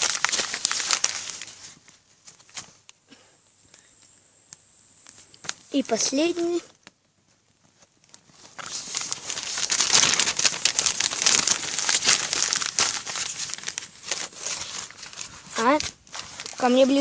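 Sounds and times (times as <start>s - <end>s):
paper crumpling and crackling: 0.0s - 3.0s, 5.0s - 17.0s.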